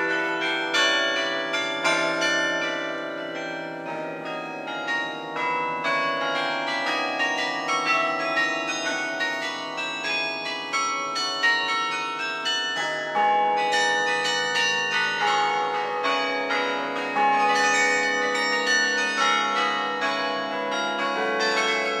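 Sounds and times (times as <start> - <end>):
carillon bells playing a tune: 0.0 - 22.0.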